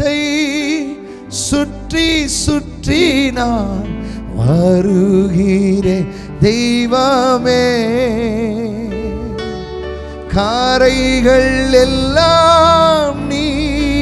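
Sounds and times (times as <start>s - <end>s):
instrumental backing: 0.0s - 14.0s
man singing into a microphone: 0.0s - 14.0s.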